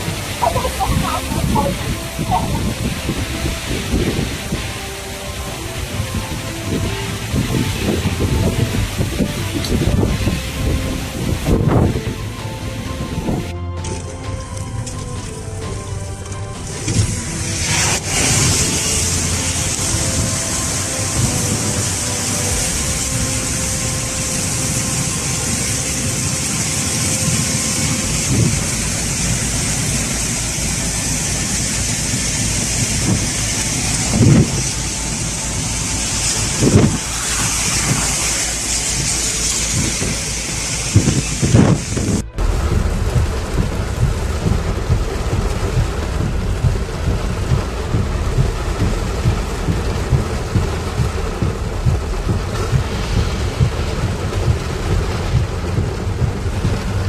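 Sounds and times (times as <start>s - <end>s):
low booms of thunder: 0.0s - 13.5s, 16.7s - 57.0s
heavy rain pouring: 0.0s - 57.0s.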